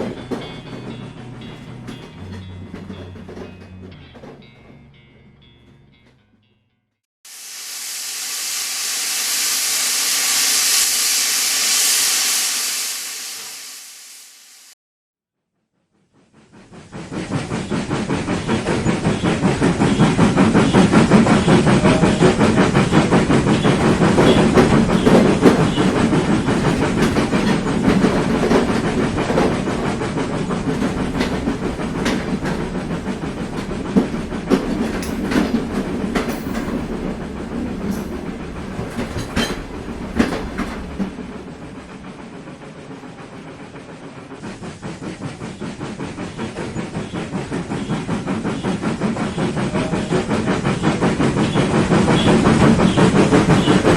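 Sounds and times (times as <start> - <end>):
train wheels clattering: 0.0 - 6.4, 16.5 - 53.9.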